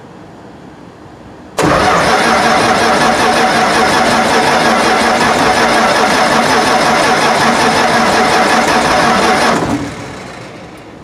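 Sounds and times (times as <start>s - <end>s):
starter motor cranking engine: 1.6s - 10.6s.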